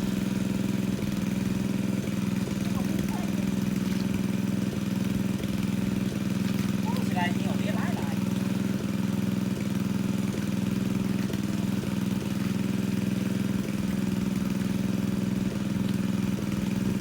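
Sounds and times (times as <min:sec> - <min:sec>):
water pump engine running: 0:00.0 - 0:17.0.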